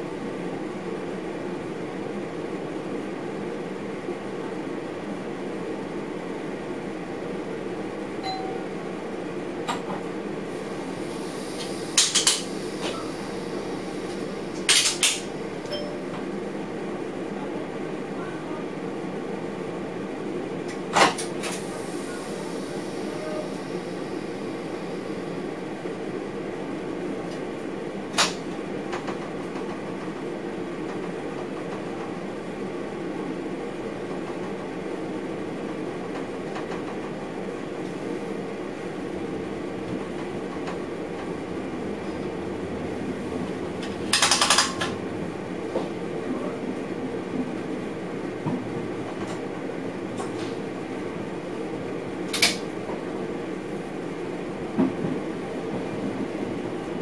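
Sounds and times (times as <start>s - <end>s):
train running rumble and hum: 0.0s - 57.0s.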